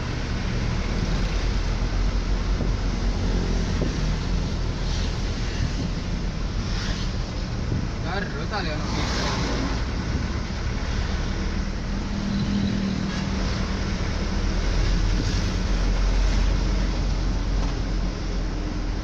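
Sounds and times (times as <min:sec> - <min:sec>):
low engine hum: 0:00.0 - 0:19.0
road traffic: 0:00.0 - 0:19.0.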